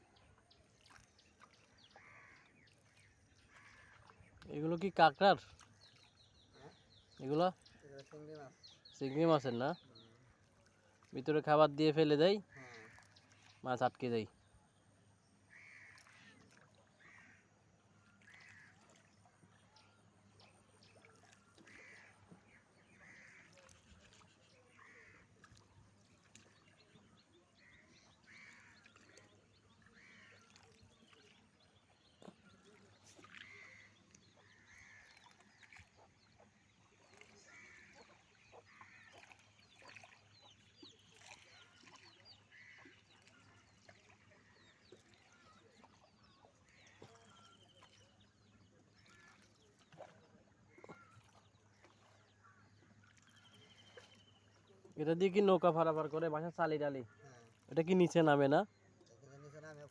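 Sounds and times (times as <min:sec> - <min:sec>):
faint bird calls: 0:00.8 - 0:11.1, 0:12.4 - 0:14.2, 0:15.5 - 0:55.1.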